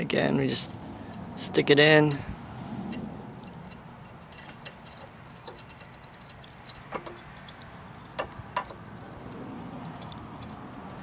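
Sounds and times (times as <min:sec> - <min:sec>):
allen key clicking on metal: 0:02.0 - 0:11.0.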